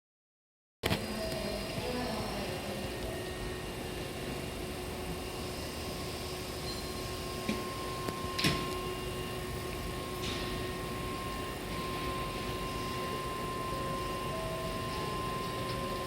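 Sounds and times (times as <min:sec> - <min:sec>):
station platform hum: 0:00.8 - 0:16.0
faint steady tone: 0:01.1 - 0:16.0
higher steady tone: 0:01.1 - 0:16.0.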